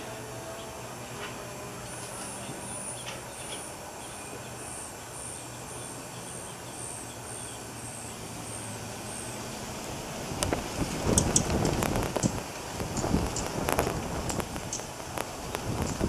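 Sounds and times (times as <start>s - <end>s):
steady low hum: 0.0s - 16.0s
nestlings cheeping: 1.7s - 9.6s, 10.4s - 16.0s.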